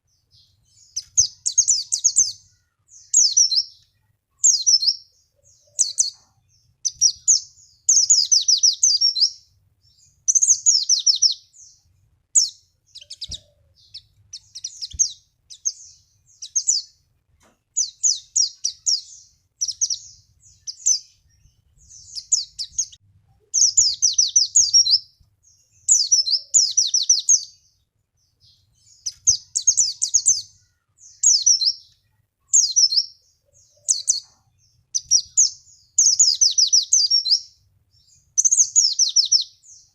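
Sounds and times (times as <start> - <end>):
bird high rapid chirping: 0.0 - 17.1, 17.7 - 39.9.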